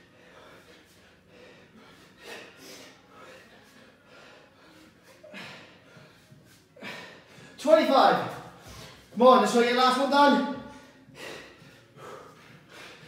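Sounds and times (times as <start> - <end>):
man breathing hard: 0.0 - 7.6, 8.5 - 9.2, 10.6 - 13.0.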